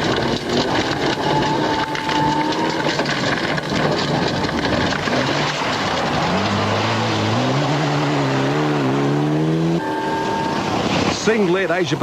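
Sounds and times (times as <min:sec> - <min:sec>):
gravel and spray noise: 0:00.0 - 0:09.7, 0:10.5 - 0:12.0
rally car engine accelerating: 0:00.0 - 0:11.5.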